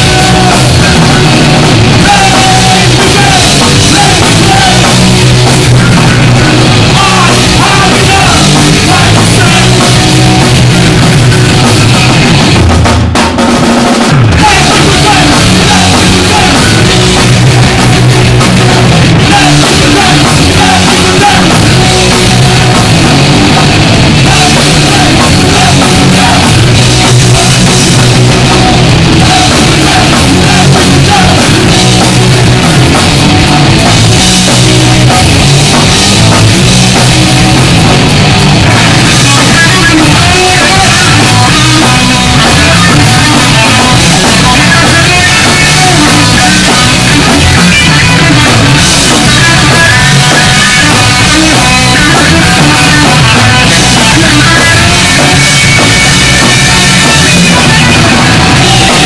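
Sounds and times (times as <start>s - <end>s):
bass guitar: 0.0s - 59.0s
drum kit: 0.0s - 59.0s
electric guitar distorted: 0.0s - 59.0s.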